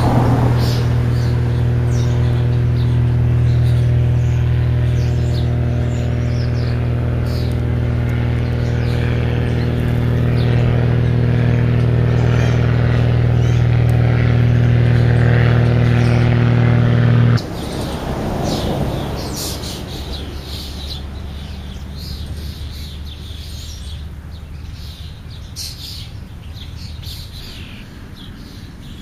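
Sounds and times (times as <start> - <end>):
birds chirping: 0.0 - 29.0
low machine hum: 0.0 - 29.0.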